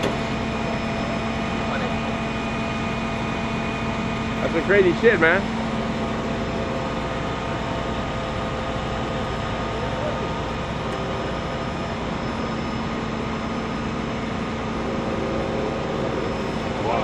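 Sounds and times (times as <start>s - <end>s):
mechanical drone: 0.0s - 17.0s.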